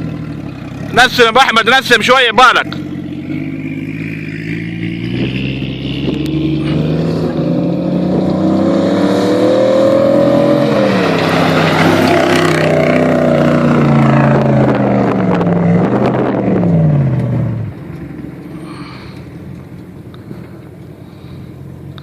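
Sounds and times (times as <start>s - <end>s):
off-road engine revving: 0.0s - 19.4s.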